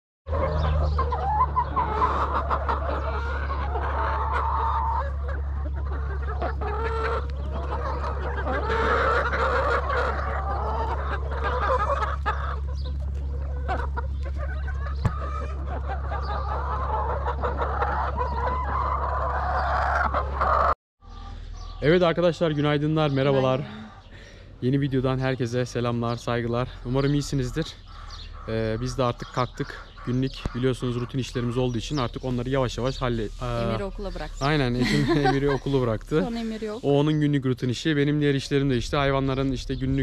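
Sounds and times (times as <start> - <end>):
hens clucking: 0.3 - 40.0.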